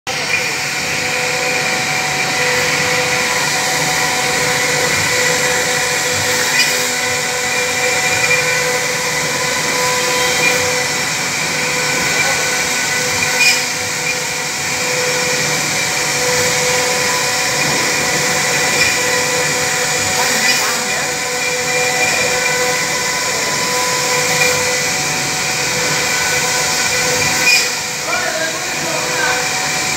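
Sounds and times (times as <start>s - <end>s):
router spindle whining: 0.1s - 29.9s.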